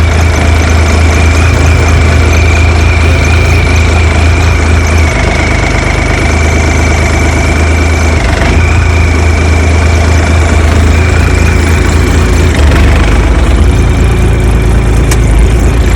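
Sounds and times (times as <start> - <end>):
diesel engine running: 0.0 - 15.9
high whine: 0.0 - 15.9.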